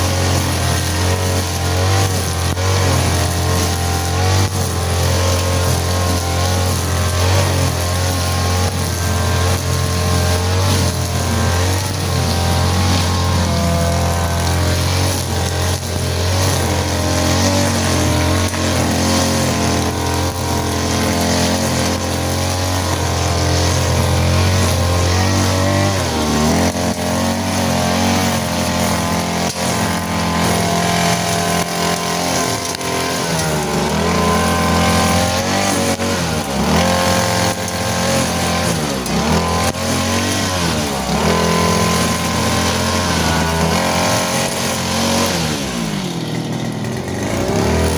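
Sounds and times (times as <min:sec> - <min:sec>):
grass cutter engine running: 0:00.0 - 0:47.9.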